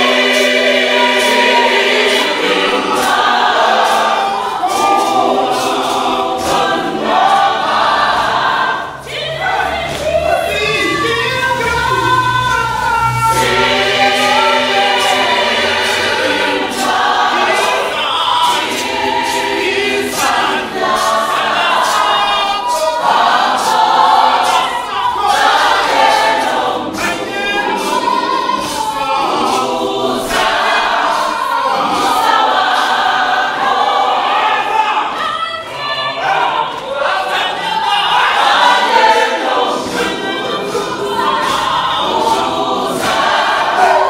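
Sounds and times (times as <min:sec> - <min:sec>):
choir singing in harmony: 0:00.0 - 0:44.0
hand claps: 0:00.0 - 0:44.0.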